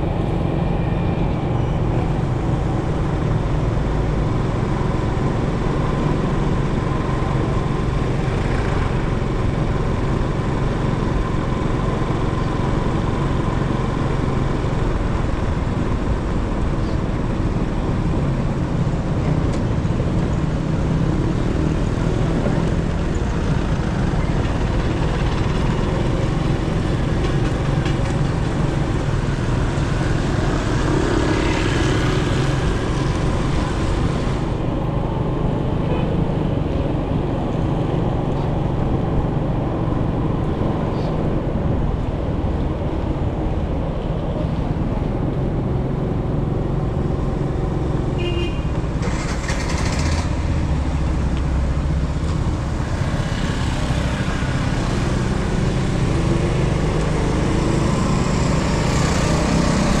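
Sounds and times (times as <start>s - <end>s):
road traffic rumble: 0.0s - 60.0s.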